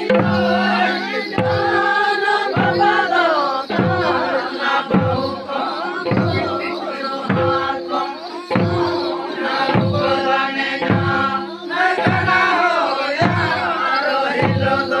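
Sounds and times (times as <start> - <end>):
barrel drum beats: 0.0 - 15.0
men chanting in unison: 0.0 - 15.0.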